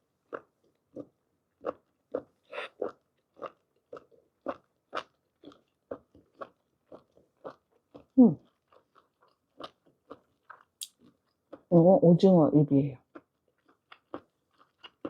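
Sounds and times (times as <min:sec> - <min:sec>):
wet chewing sounds: 0:00.2 - 0:11.7, 0:13.0 - 0:15.0.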